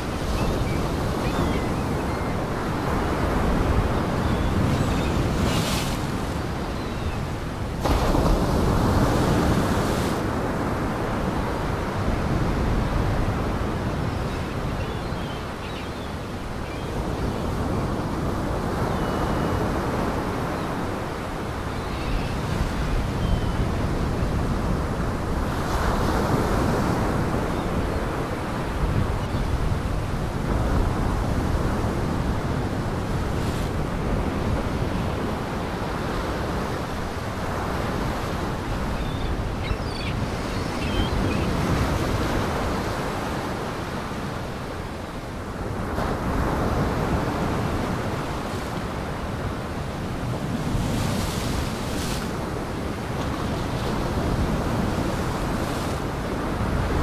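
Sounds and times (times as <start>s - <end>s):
wind: 0.0s - 57.0s.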